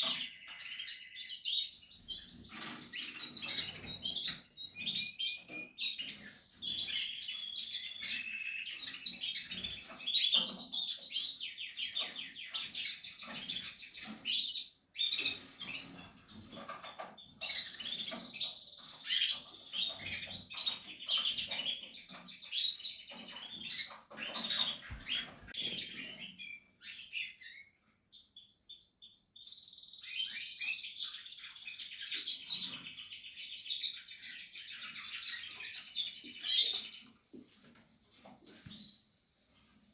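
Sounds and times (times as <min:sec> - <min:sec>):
canaries chirping and trilling: 0:00.0 - 0:39.9.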